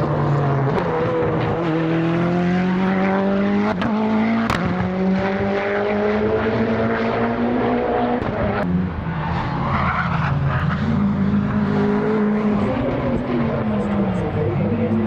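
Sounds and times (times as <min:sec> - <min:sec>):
race car engine revving high: 0:00.0 - 0:15.0.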